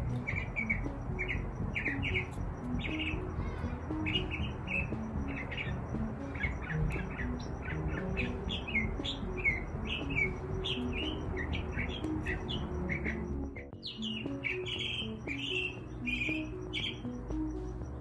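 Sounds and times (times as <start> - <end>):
finches chirping: 0.0 - 18.0.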